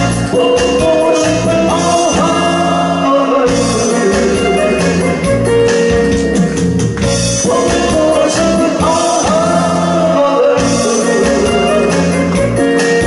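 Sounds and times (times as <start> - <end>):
amplified backing music: 0.0 - 13.0.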